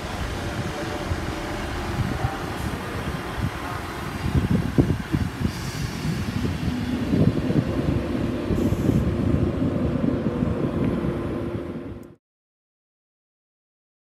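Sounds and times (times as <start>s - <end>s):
train rumbling past with thumps: 0.0s - 12.0s
train engine hum: 0.0s - 12.2s.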